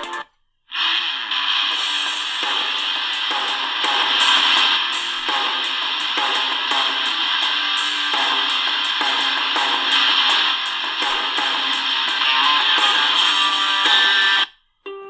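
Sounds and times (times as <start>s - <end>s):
music through small radio speaker: 0.0s - 15.0s.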